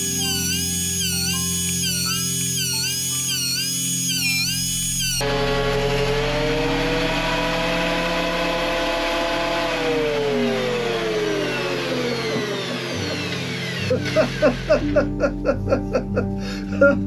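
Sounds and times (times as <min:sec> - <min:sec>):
planer motor whining: 0:00.0 - 0:15.3
music: 0:00.0 - 0:17.0.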